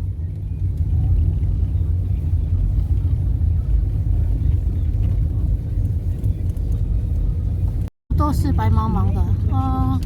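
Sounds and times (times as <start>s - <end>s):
car driving road noise: 0.0s - 10.0s.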